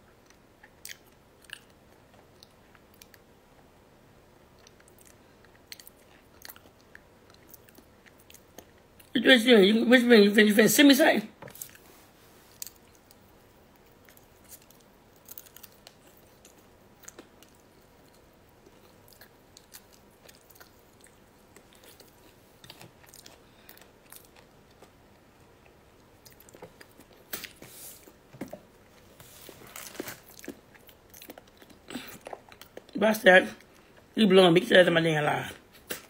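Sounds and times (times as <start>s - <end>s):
person chewing food: 0.1s - 3.3s, 4.5s - 9.1s, 11.5s - 33.0s.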